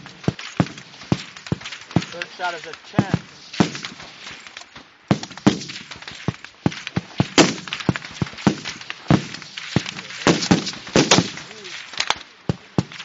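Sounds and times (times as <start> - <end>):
rifle shots with echo: 0.0 - 4.4, 5.1 - 13.0.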